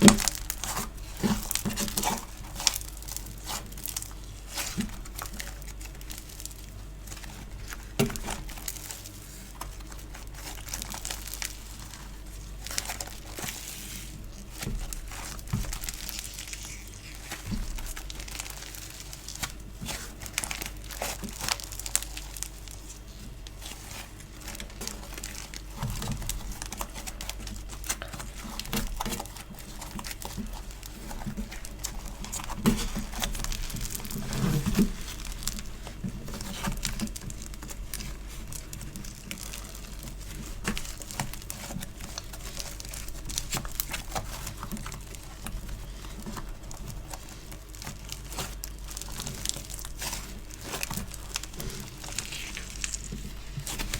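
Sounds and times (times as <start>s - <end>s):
slime squished by hand: 0.0s - 53.9s.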